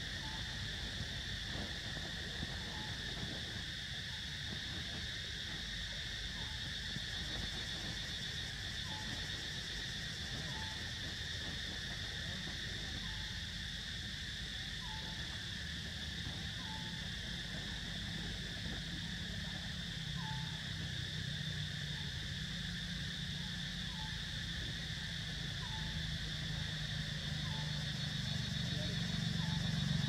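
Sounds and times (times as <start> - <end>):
insect chorus drone: 0.0 - 30.0.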